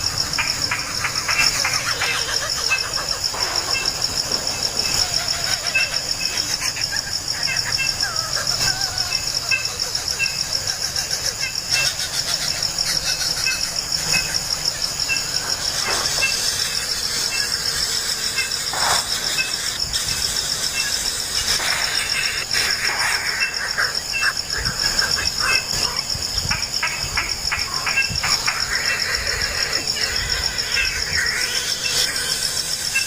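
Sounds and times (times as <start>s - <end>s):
pulsing insect chorus: 0.0s - 33.0s.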